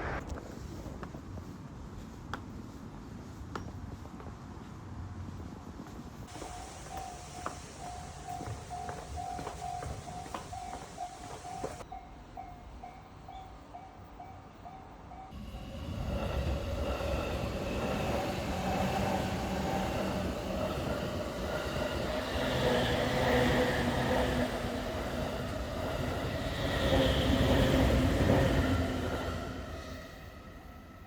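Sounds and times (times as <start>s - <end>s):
train passing on tracks: 0.0s - 31.0s.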